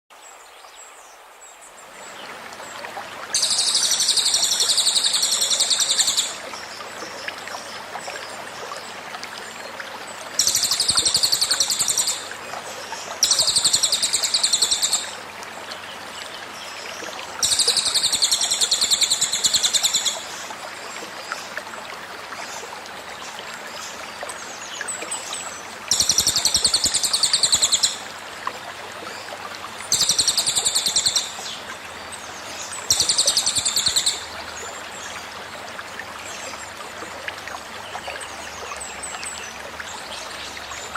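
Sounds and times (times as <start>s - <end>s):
flowing stream babble: 0.1s - 40.9s.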